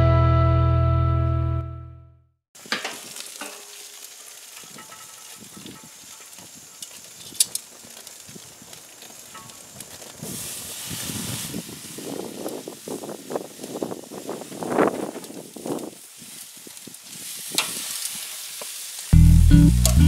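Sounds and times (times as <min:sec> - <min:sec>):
chicken sizzling on grill: 0:02.6 - 0:20.0.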